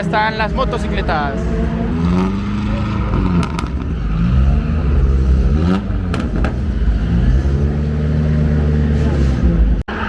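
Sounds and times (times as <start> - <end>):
vehicle engines revving: 0.0 - 10.0.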